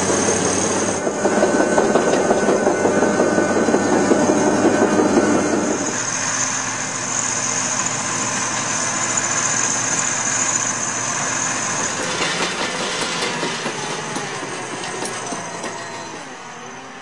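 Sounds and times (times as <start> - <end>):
machine engine running: 0.0 - 17.0.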